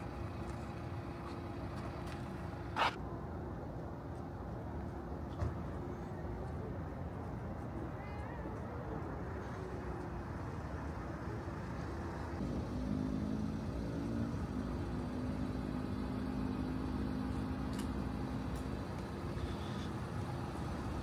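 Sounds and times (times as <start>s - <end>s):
background noise: 0.0s - 21.0s
engine hum: 0.0s - 21.0s.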